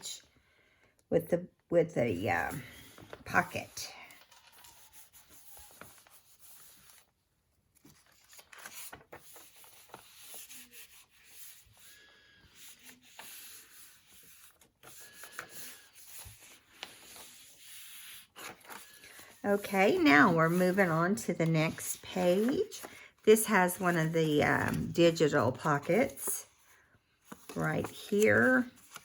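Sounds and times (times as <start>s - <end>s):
paper rustling: 2.5s - 29.0s.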